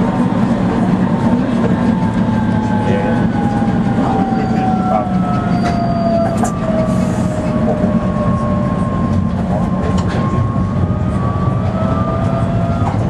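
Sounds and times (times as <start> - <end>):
tram running gear rumble: 0.0 - 13.0.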